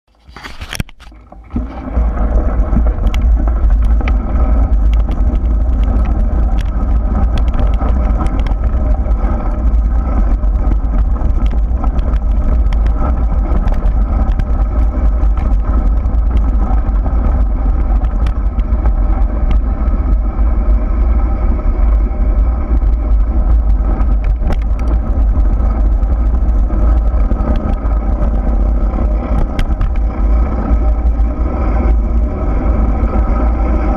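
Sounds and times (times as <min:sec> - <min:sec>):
steady hum: 0:00.1 - 0:33.9
tyres rolling on dirt: 0:01.2 - 0:33.9
wind buffeting microphone: 0:01.5 - 0:33.9
scattered clicks: 0:02.6 - 0:20.2, 0:21.7 - 0:32.0.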